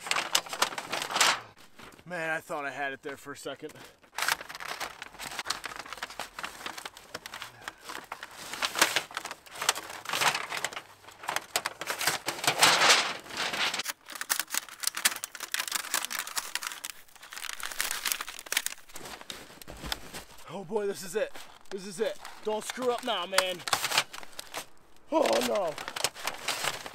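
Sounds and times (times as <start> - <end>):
thin metal sheet crinkling: 0.0 - 2.0, 4.1 - 26.9.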